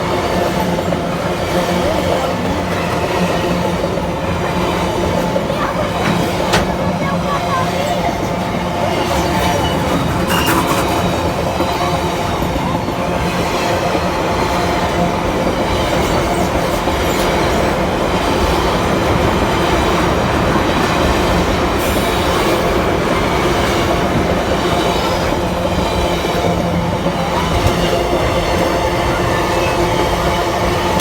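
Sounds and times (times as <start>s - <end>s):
train wheels running on rails: 0.0s - 31.0s.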